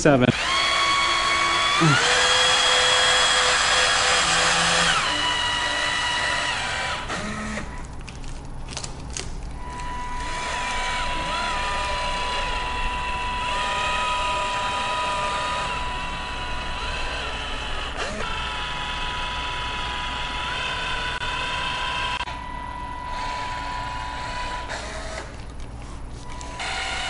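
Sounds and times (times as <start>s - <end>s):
caulking gun motor whining: 0.3s - 7.8s, 9.6s - 25.5s, 26.2s - 27.0s.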